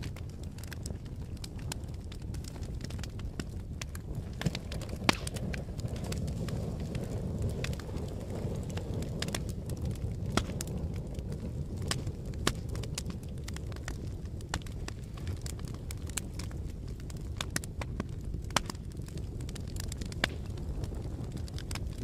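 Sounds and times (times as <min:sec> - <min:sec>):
fire crackling and popping: 0:00.0 - 0:22.0
fire roaring: 0:00.0 - 0:22.0.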